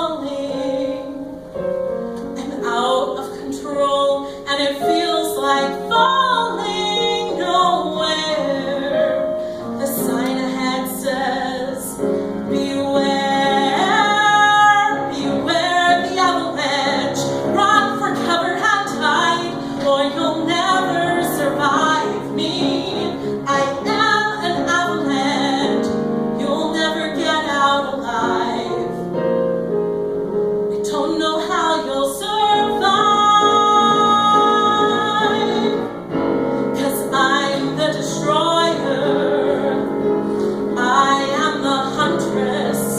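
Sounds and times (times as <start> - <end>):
woman singing: 0.0 - 1.5, 2.3 - 29.1, 30.8 - 36.0, 36.6 - 42.9
piano accompaniment: 0.0 - 42.9.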